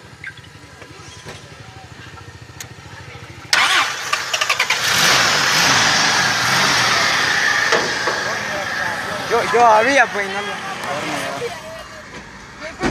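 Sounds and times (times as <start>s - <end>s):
car engine starting and running: 0.0s - 12.9s.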